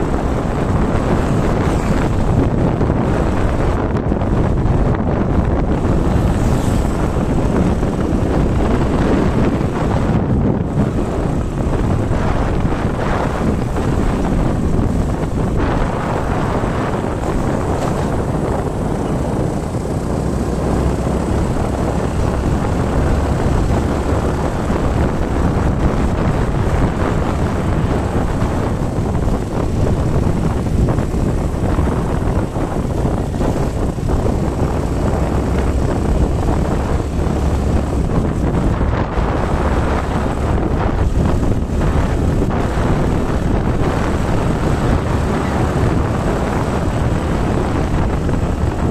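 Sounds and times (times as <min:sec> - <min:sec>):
vehicle road and engine noise: 0:00.0 - 0:48.9
wind buffeting the microphone: 0:00.0 - 0:48.9.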